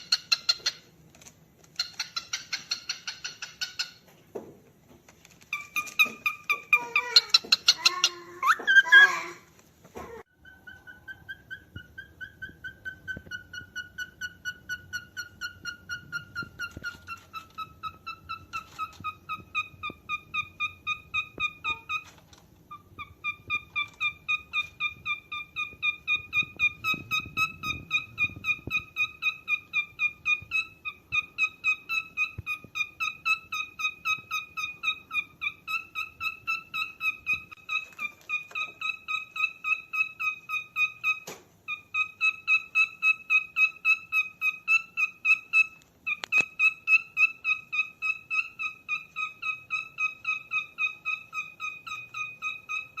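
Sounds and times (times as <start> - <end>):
cockatiel calling: 0.0 - 0.9, 1.7 - 4.0, 5.5 - 9.4, 10.2 - 53.0.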